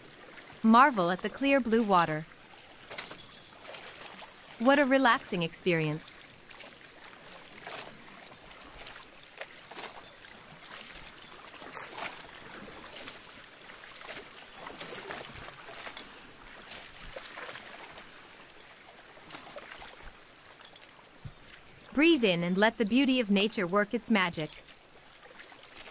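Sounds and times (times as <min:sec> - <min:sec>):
water splashing against boat hull: 0:00.0 - 0:25.9.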